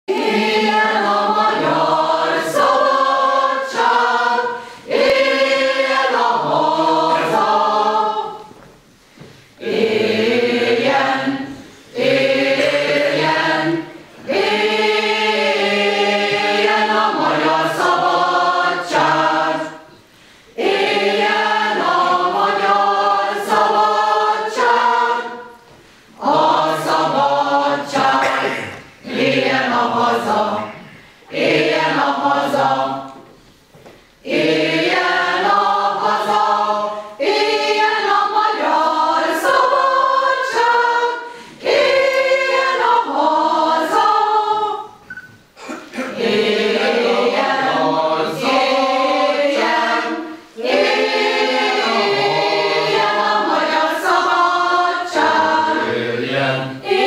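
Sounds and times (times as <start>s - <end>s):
mixed choir singing a cappella: 0.1s - 57.0s.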